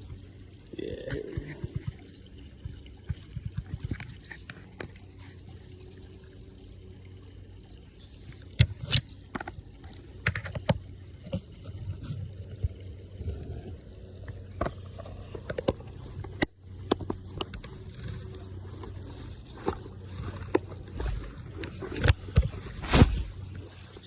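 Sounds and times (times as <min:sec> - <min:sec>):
creek water trickling: 0:00.0 - 0:24.0.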